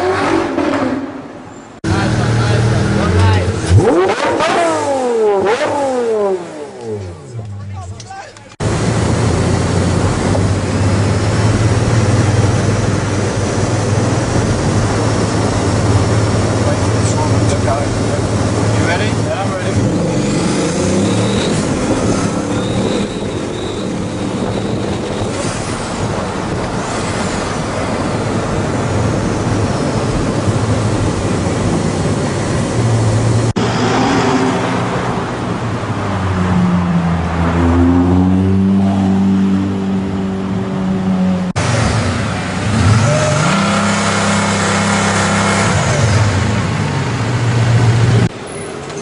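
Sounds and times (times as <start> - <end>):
supercar engines revving: 0.0 - 48.5.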